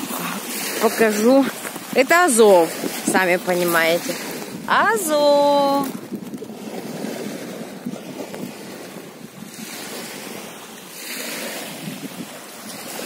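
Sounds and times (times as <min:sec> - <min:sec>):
small surf waves washing: 0:00.0 - 0:13.0.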